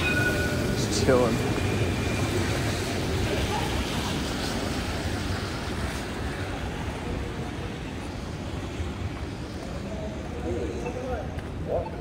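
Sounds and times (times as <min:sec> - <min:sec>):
street traffic rushing: 0:00.0 - 0:12.0.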